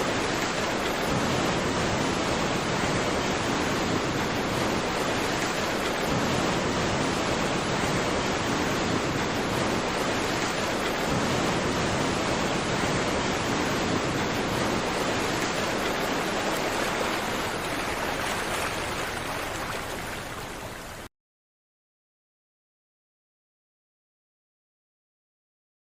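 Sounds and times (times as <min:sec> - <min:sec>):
ocean surf washing ashore: 0:00.0 - 0:21.1.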